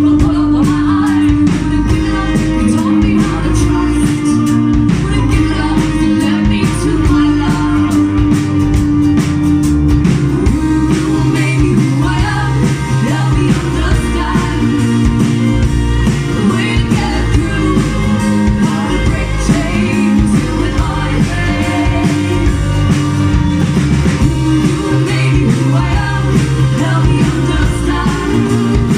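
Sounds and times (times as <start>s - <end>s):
person singing: 0.0s - 8.7s, 10.2s - 23.6s, 24.2s - 28.9s
guitar: 0.0s - 28.9s
rock band playing: 0.0s - 28.9s.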